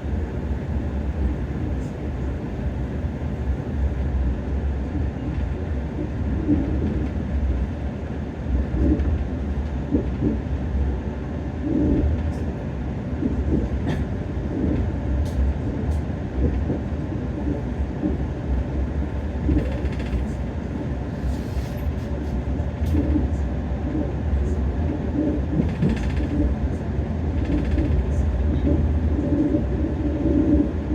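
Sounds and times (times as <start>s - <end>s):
train rumbling on rails: 0.0s - 30.9s.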